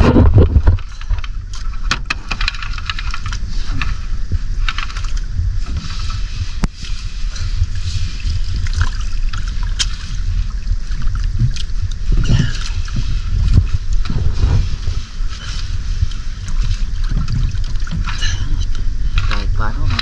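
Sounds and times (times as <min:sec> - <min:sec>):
water lapping against boat hull: 0:00.0 - 0:20.0
wind buffeting microphone: 0:00.0 - 0:20.0.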